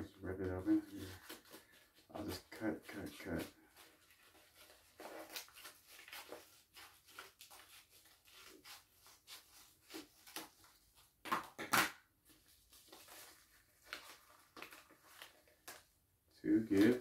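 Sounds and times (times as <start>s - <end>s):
paper crinkling: 0.4s - 11.1s, 12.3s - 16.0s.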